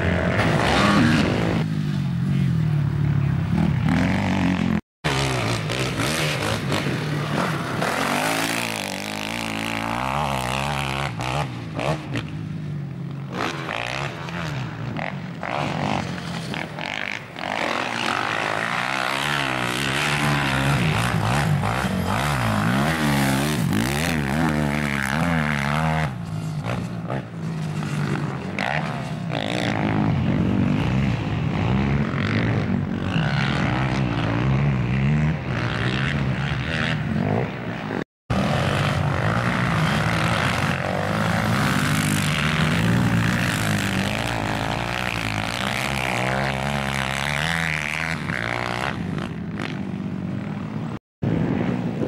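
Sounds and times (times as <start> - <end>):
quad bike engines revving: 0.0 - 52.0.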